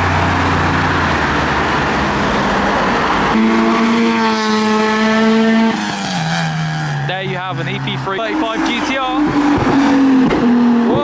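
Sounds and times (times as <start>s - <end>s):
cars driving past: 0.0s - 11.0s
loud steady car engine note: 0.0s - 11.0s.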